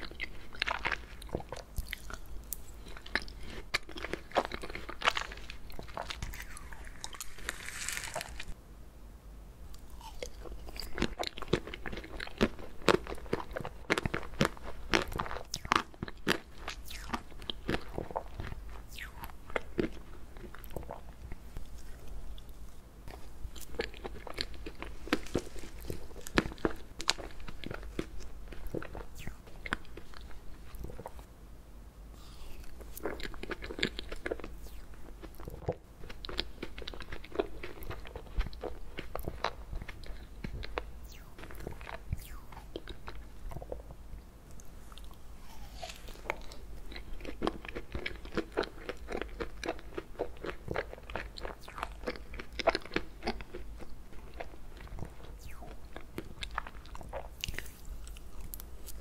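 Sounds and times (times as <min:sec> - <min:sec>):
close-miked eating and chewing: 0:00.0 - 0:08.6, 0:09.7 - 0:31.3, 0:32.1 - 0:59.0.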